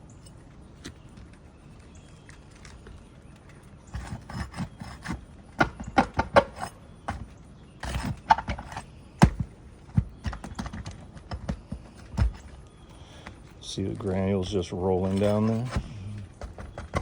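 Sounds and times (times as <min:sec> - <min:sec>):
scraping and crackling of shingles: 0:00.4 - 0:17.0.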